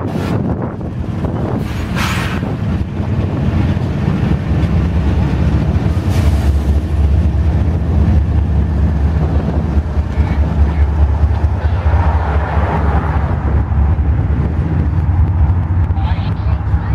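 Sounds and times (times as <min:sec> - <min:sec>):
locomotive engines droning: 0:00.0 - 0:16.9
wind buffeting microphone: 0:00.0 - 0:16.9.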